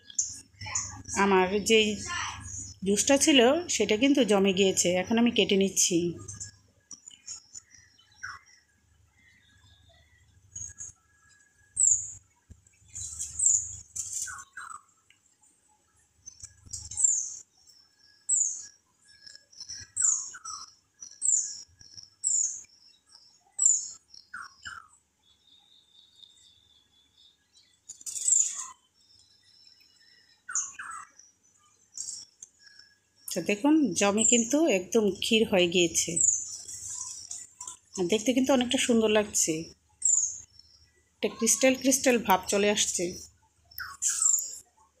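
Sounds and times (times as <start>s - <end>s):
bird chirping: 0.0s - 45.0s.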